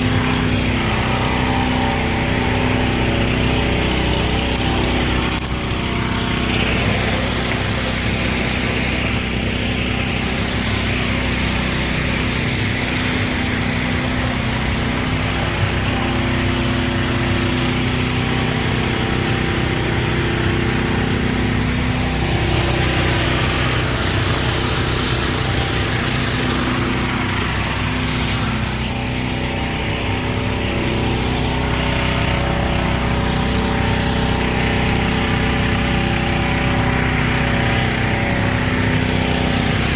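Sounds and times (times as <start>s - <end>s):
small engine running under load: 0.0s - 39.9s
steady hiss: 0.0s - 39.9s.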